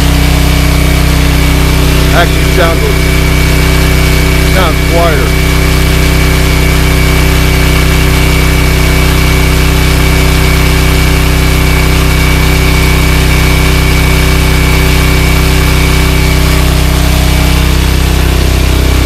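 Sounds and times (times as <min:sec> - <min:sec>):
generator engine running: 0:00.0 - 0:19.0
thin steady whine: 0:00.0 - 0:19.0.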